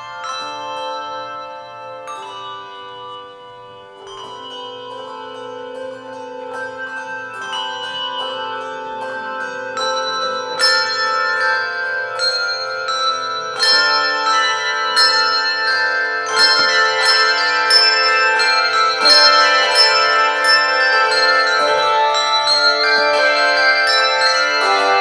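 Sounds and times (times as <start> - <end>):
handbell choir playing chords: 0.0 - 25.0.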